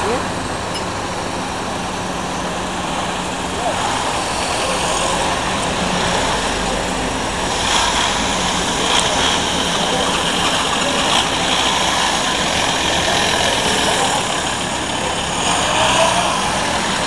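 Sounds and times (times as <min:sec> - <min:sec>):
traffic engine and road noise: 0:00.0 - 0:17.0.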